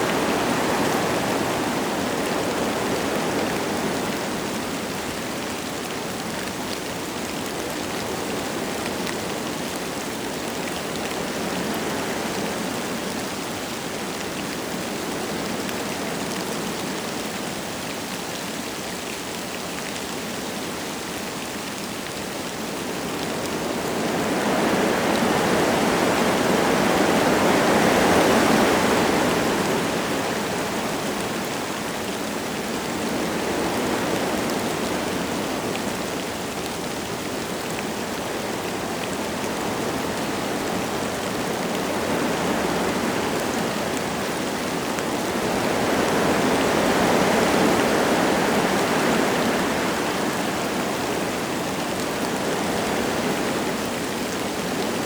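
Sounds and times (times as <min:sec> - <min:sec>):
light rain falling: 0:00.0 - 0:55.0
wind gusting through trees: 0:00.0 - 0:55.0.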